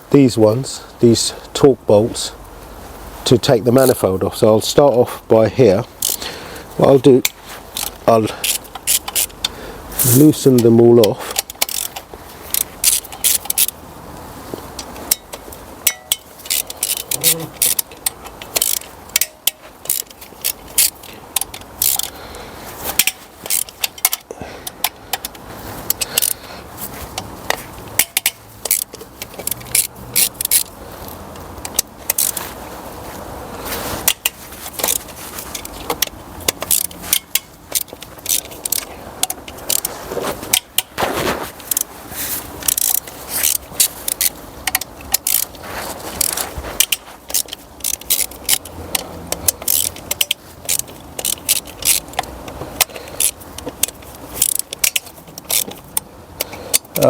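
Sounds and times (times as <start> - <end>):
ratchet wrench clicking: 5.8 - 6.3, 7.2 - 13.8, 14.8 - 22.2, 22.9 - 26.4, 27.1 - 32.5, 34.0 - 41.0, 41.6 - 57.0
metal tools clinking: 5.8 - 13.8, 14.7 - 32.6, 33.7 - 57.0.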